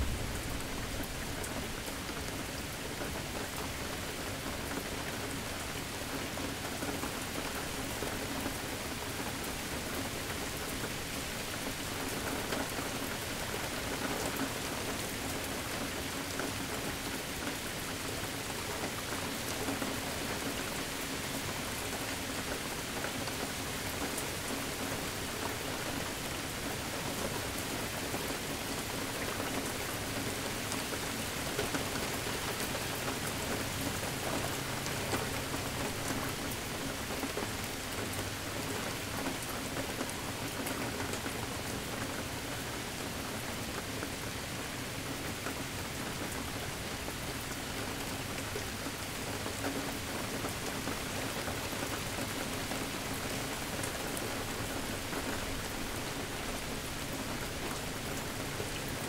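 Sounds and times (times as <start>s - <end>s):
rain drops striking a surface: 0.0s - 59.0s.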